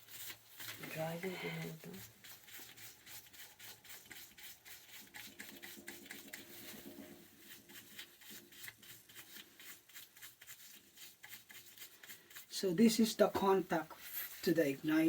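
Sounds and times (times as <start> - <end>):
rapid scrubbing strokes: 0.0 - 15.0.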